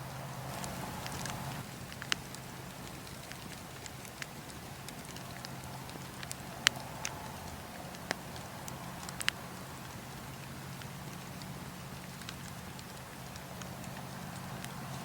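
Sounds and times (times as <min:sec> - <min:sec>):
campfire crackling: 0:00.0 - 0:15.0
fire popping: 0:00.0 - 0:15.0
steady low hum: 0:00.0 - 0:15.0.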